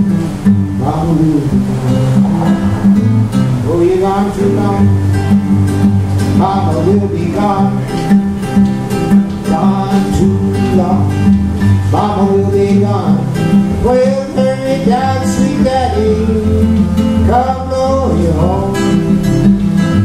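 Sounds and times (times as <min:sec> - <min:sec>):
fingerpicked acoustic guitar blues: 0:00.0 - 0:20.0.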